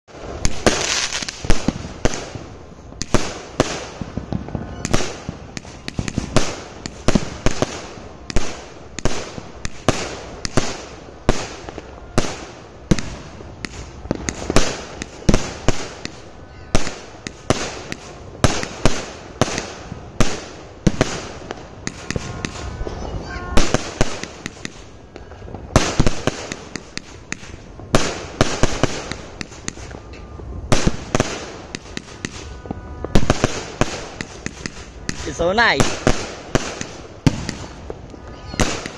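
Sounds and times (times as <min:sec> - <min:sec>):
firework cake bangs: 0:03.0 - 0:38.9.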